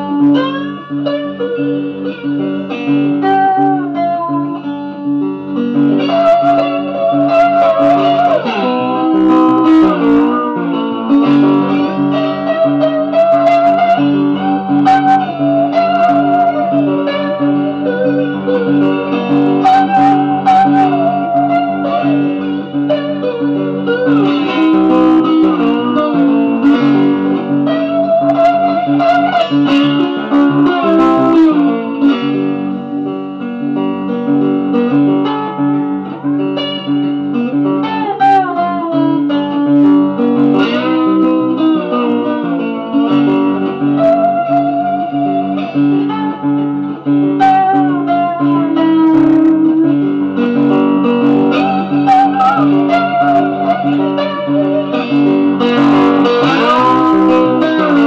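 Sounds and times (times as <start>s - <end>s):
electric guitar lead: 0.0s - 58.0s.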